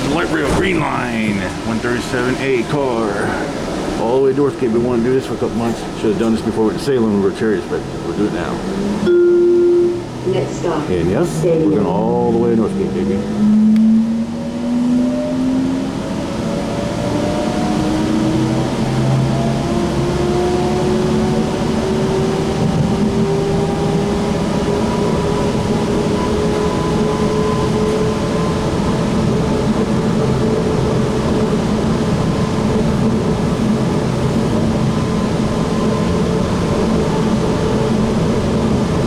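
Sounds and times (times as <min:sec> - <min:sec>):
train running rumble: 0:00.0 - 0:09.1, 0:15.7 - 0:39.0.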